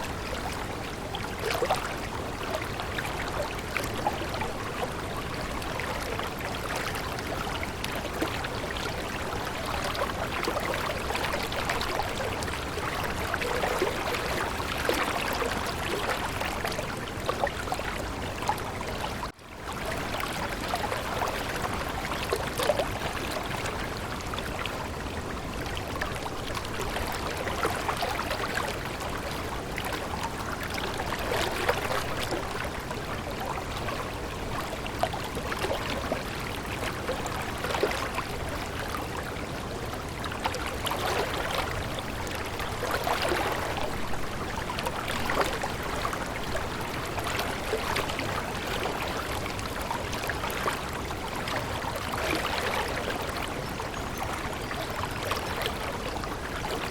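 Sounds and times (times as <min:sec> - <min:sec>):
stream water burbling: 0:00.0 - 0:56.9.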